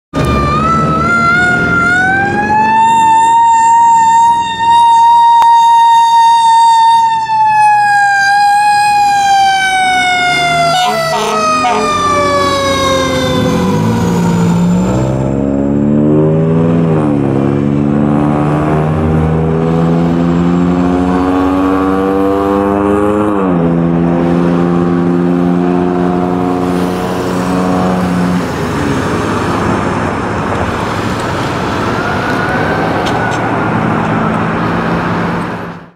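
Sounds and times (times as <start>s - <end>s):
fire engine siren: 0.1s - 35.9s
diesel engine pulling away: 0.2s - 5.0s, 7.6s - 35.9s.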